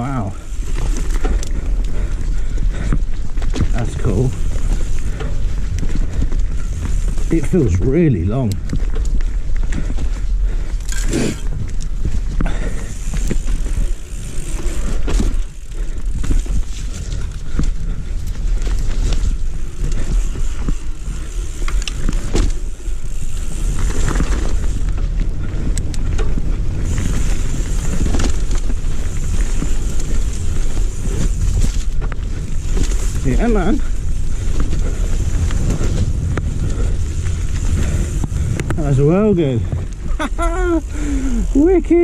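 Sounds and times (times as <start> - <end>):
bike knocks and rattles: 0.0 - 42.0
bike tyre rumble on dirt: 0.0 - 42.0
wind against microphone: 0.0 - 42.0.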